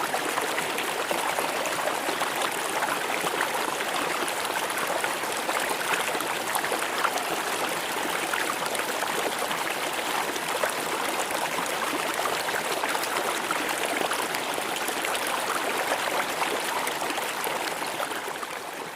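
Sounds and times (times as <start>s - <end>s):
stream flowing over rocks: 0.0s - 18.9s.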